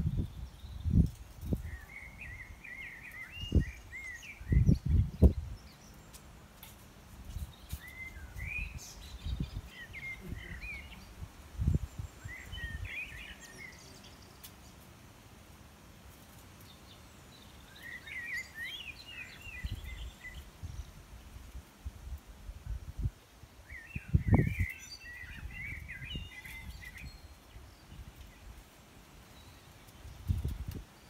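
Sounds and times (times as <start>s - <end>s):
small birds twittering: 0.0s - 21.7s, 22.6s - 31.0s
faint outdoor hiss: 0.0s - 31.0s.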